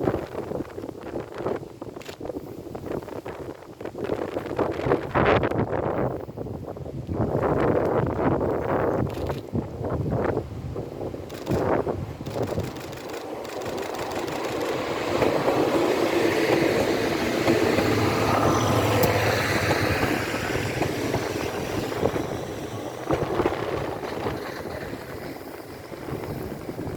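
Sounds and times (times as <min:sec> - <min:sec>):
diesel locomotive train passing: 0:00.0 - 0:26.9.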